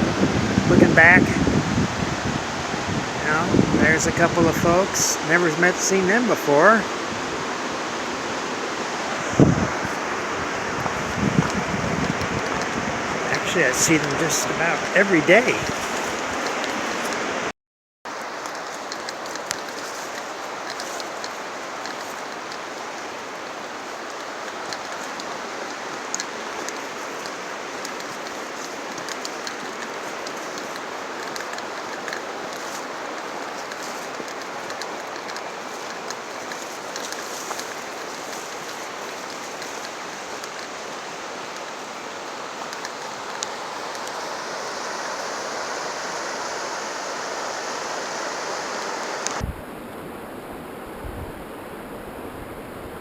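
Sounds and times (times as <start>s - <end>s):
creek water rushing: 0.0s - 17.5s, 18.1s - 53.0s.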